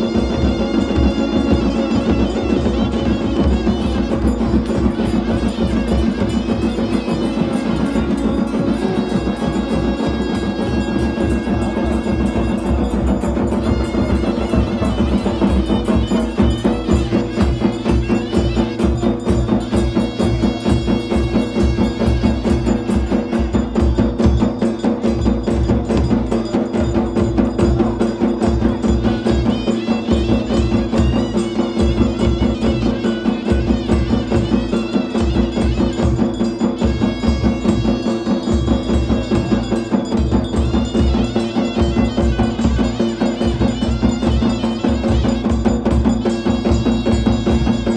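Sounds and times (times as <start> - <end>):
fast folk drumming: 0.0 - 47.9.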